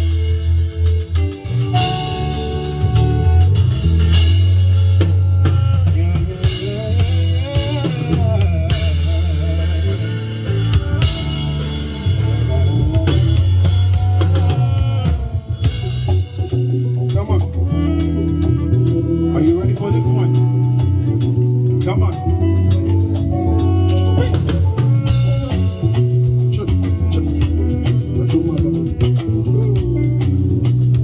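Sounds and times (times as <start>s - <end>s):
afrobeat song over pa system: 0.0s - 31.0s.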